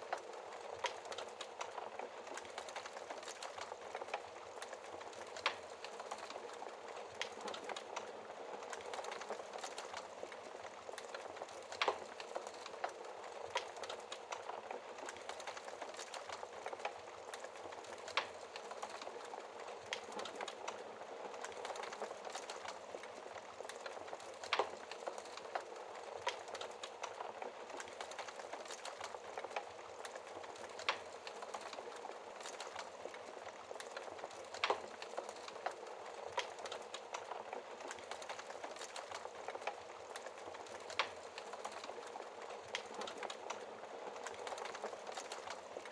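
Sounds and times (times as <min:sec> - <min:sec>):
fire crackling in fireplace: 0:00.0 - 0:45.9.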